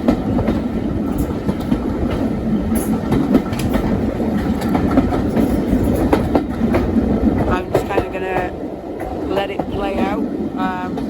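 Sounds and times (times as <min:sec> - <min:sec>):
train carriage rumble: 0:00.0 - 0:11.0
wheels clicking over rail joints: 0:00.0 - 0:11.0.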